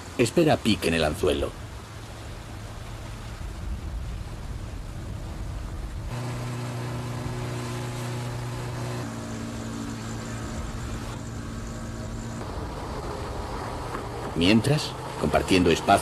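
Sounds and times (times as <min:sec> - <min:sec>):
motorboat engine droning: 0:00.0 - 0:16.0
rushing water: 0:00.0 - 0:16.0
rushing wind: 0:00.0 - 0:16.0.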